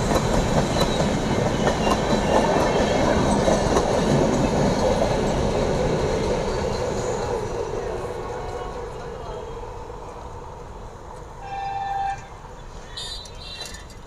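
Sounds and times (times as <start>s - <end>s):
train wheels rumbling and clattering: 0.0s - 11.4s.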